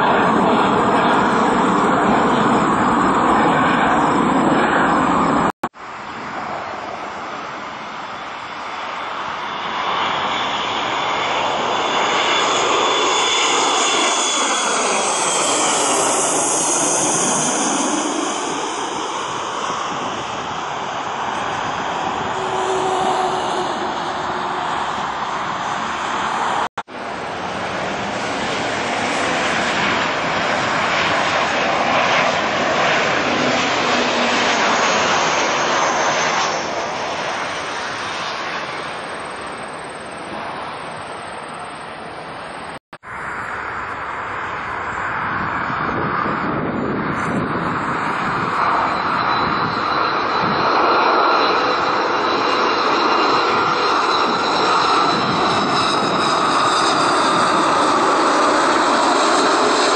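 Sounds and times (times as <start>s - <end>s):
jet engines roaring: 0.0s - 59.9s
jet passing overhead: 0.0s - 59.9s.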